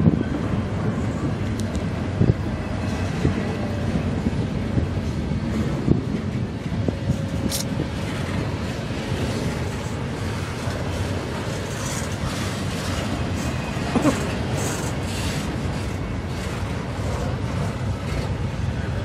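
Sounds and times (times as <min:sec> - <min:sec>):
freight train wheels rattling: 0:00.0 - 0:19.0.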